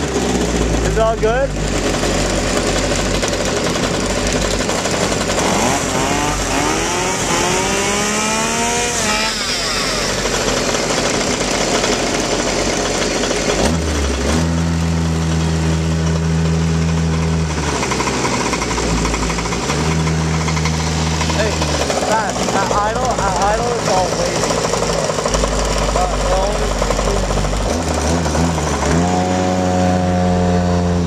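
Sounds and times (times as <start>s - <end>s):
engine idling: 0.0s - 31.0s
small two-stroke engine revving: 0.0s - 31.0s.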